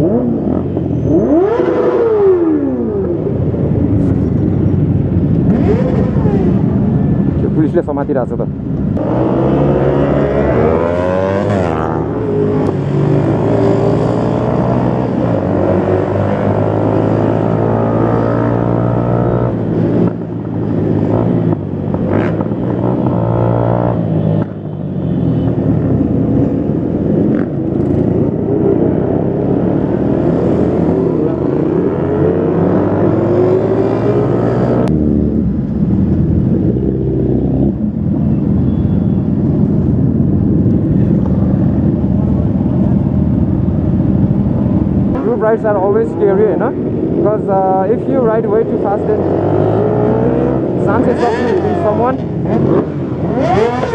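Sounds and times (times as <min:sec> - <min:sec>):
motorcycle engines revving: 0:00.0 - 0:53.9.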